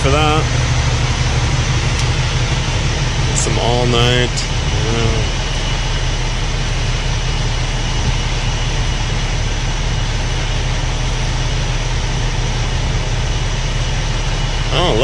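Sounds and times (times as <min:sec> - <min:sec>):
low vehicle engine drone: 0:00.0 - 0:15.0.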